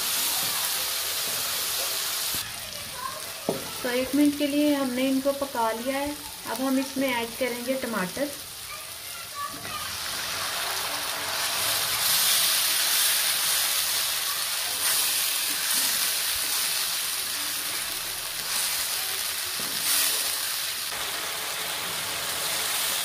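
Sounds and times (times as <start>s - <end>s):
tomato sizzling in oil: 0.0s - 23.0s.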